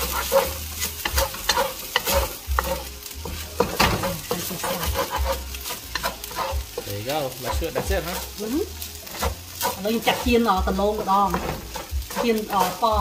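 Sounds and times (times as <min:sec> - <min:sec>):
rice sizzling: 0:00.0 - 0:13.0
wooden spatula scraping wok: 0:00.0 - 0:13.0.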